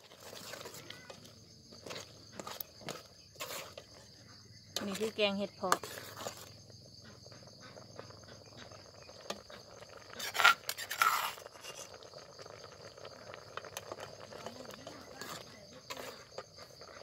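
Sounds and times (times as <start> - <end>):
metal ladle scraping a pot: 0.0 - 4.1, 4.7 - 12.1, 13.6 - 17.0
insects chirring: 0.0 - 17.0.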